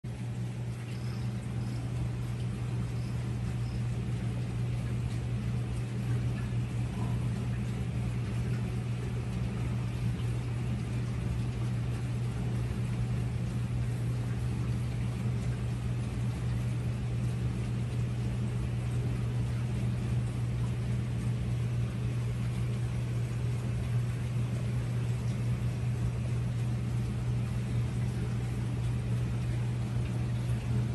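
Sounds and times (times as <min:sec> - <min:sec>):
aquarium air pump humming: 0:00.0 - 0:30.9.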